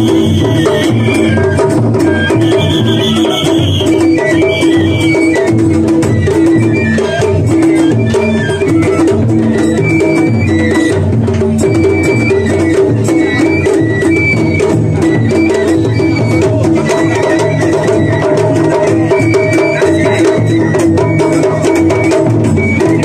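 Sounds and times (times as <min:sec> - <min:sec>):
taiko drums beating: 0:00.0 - 0:23.0.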